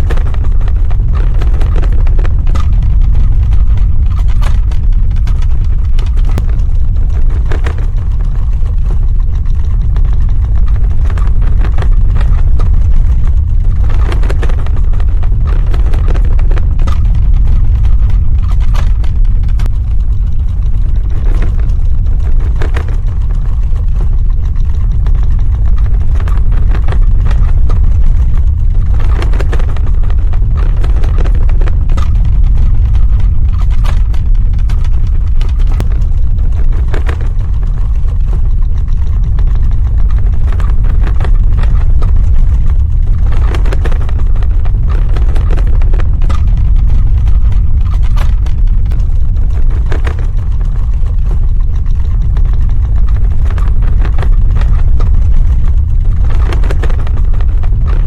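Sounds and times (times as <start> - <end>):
crackles and rattles: 0.0 - 58.0
deep earthquake rumble: 0.0 - 58.0.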